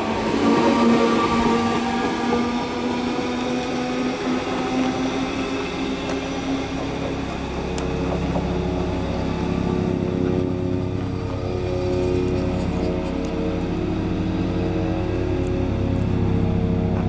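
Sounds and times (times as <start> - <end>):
deep throbbing hum: 0.0 - 17.0
electric train droning: 0.0 - 17.0.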